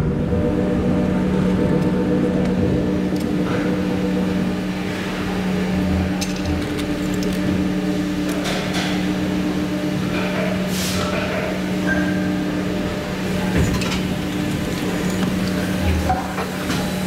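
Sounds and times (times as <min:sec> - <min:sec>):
factory machinery humming: 0:00.0 - 0:17.0.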